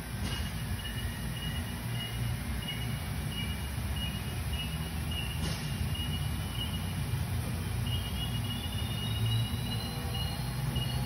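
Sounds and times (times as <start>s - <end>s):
machine low hum: 0.0s - 11.0s.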